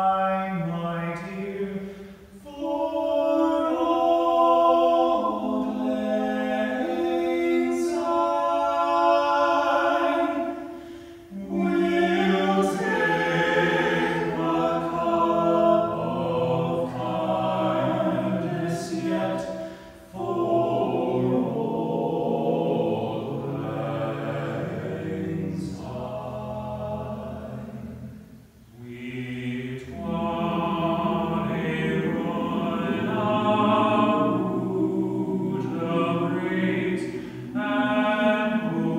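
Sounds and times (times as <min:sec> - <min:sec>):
men's choir singing a cappella: 0:00.0 - 0:38.9.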